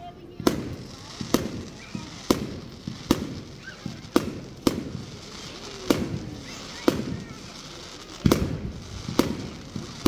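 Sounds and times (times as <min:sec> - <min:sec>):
fireworks bangs with echo: 0:00.0 - 0:10.0.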